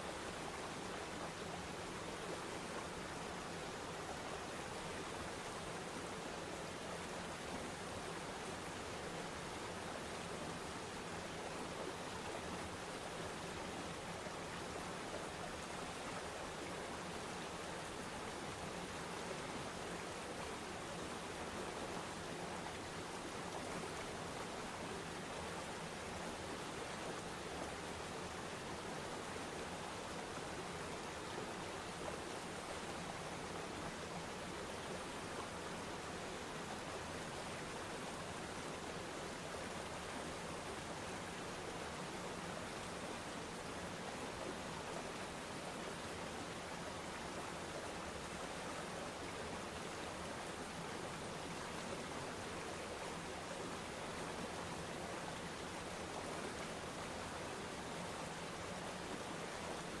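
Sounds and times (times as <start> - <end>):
waterfall: 0.0 - 60.0.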